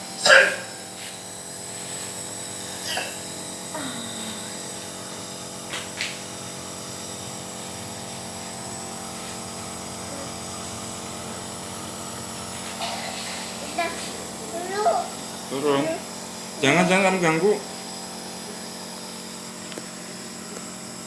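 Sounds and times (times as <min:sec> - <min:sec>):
compressor motor hum: 0:00.0 - 0:21.0.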